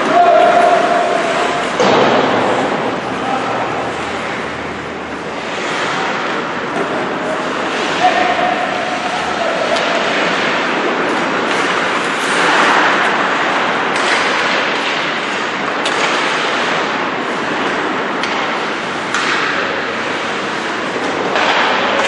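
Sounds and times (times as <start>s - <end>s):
hockey sticks and puck clacking: 0.0s - 22.0s
skate blades scraping ice: 0.0s - 22.0s.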